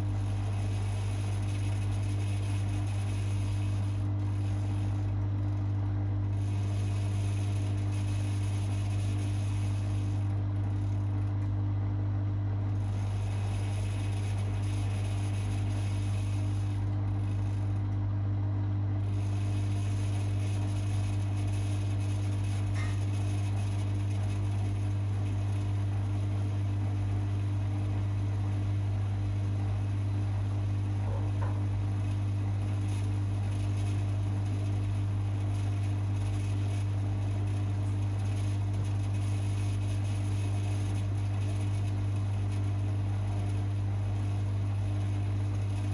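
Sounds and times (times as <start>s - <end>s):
washing machine motor humming: 0.0s - 45.9s.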